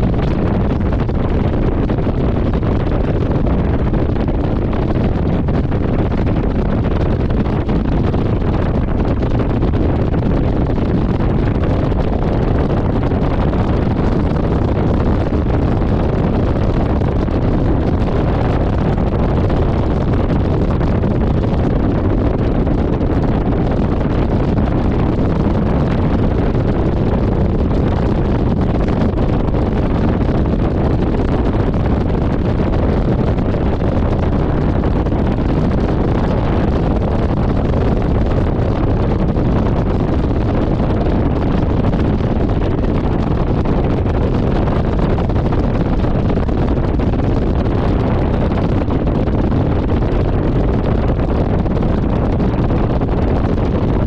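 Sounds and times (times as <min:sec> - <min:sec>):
wind rush on microphone: 0:00.0 - 0:54.0.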